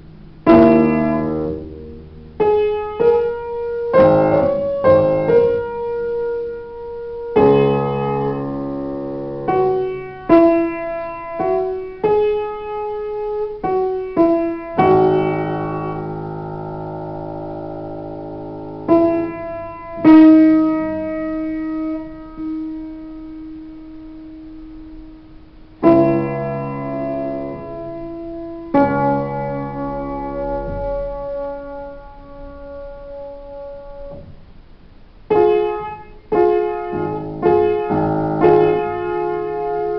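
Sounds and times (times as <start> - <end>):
piano playing slow chords: 0.0 - 39.9.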